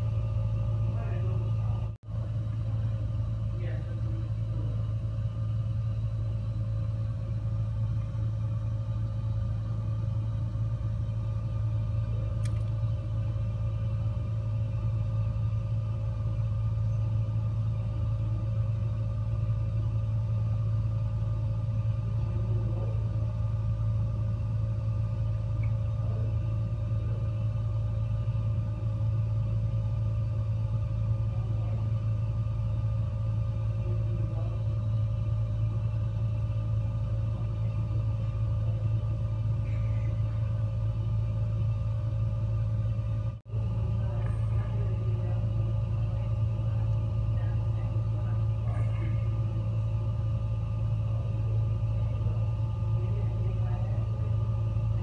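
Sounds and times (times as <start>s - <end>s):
faint hum: 0.0s - 55.0s
gas fireplace low rumble: 0.0s - 55.0s.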